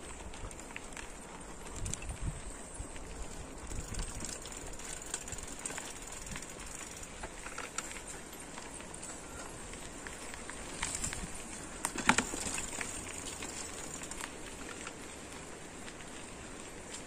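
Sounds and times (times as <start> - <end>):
bicycle tyres crunching on dirt: 0.0 - 17.0
small clicks and rattles: 0.0 - 17.0.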